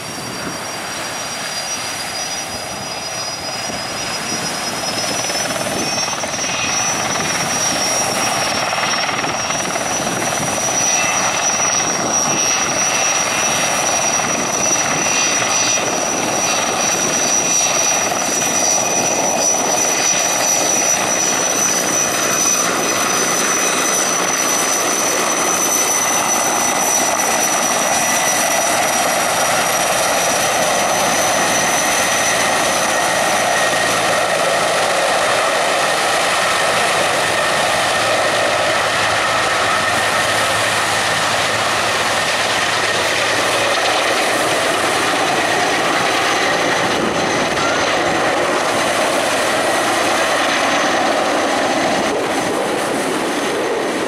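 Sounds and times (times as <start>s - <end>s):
helicopter rotor rush: 0.0s - 54.0s
high engine whine: 0.0s - 54.0s.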